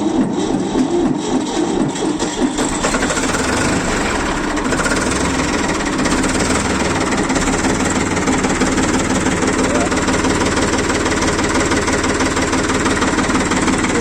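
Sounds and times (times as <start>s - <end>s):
tractor diesel engine starting: 0.0s - 14.0s.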